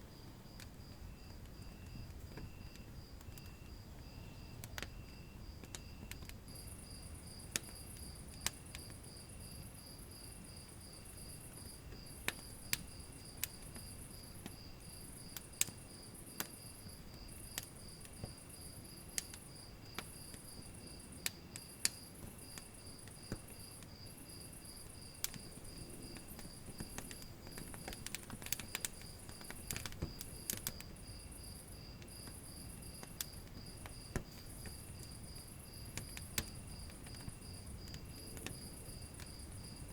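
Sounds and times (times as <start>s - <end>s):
wood fire crackling: 0.0s - 39.9s
insects chirping: 0.1s - 39.9s.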